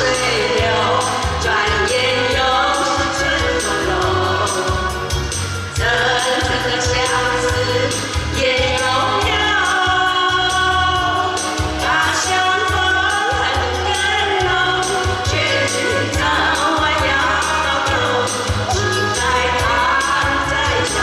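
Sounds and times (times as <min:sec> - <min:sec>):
amplified backing music: 0:00.0 - 0:21.0
women singing a duet: 0:00.0 - 0:21.0.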